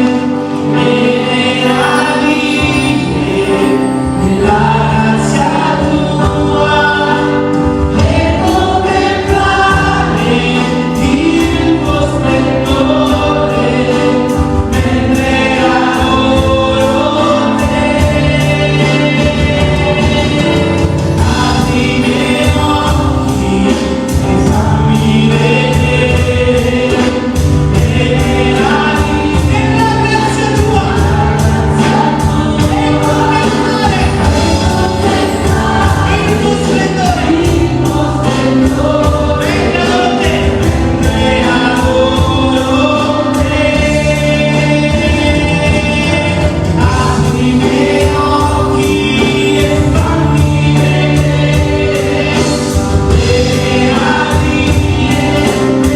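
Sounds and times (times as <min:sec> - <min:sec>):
bass and keyboard chords: 0:00.0 - 0:55.9
choir singing: 0:00.0 - 0:55.9.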